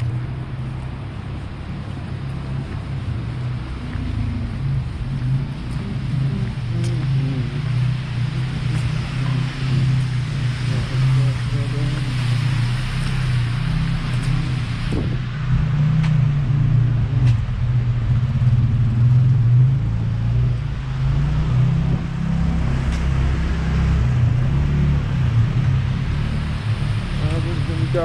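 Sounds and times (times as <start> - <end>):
street noise: 0.0 - 28.0
vehicle engine rumble: 0.0 - 28.0.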